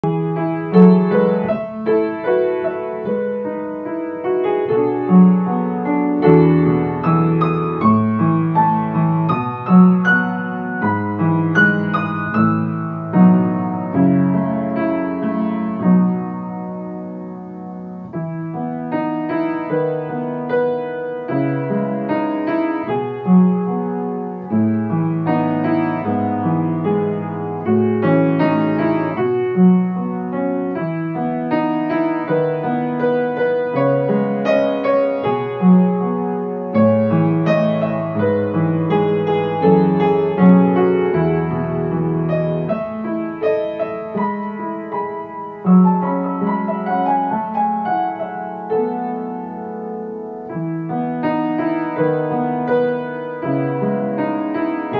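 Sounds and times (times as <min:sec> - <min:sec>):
slow calm piano music: 0:00.0 - 0:54.9.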